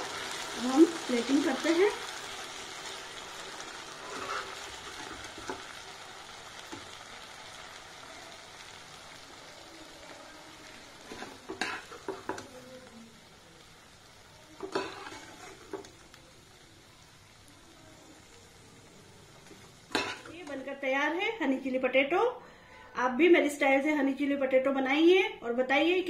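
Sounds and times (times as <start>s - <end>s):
sauce sizzling and bubbling in a wok: 0.0s - 26.0s.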